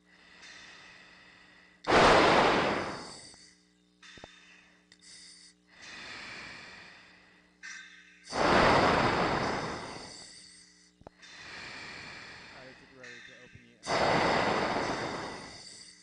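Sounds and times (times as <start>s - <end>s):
breathing through oxygen mask: 0.0s - 3.4s, 5.0s - 7.5s, 8.3s - 16.0s
faint electrical hum: 0.0s - 16.0s.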